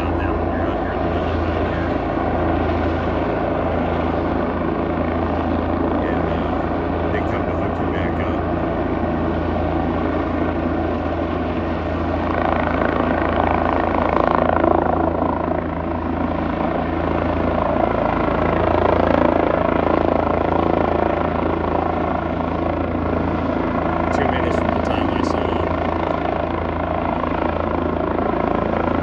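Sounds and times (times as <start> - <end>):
helicopter rotor and turbine: 0.0 - 29.0.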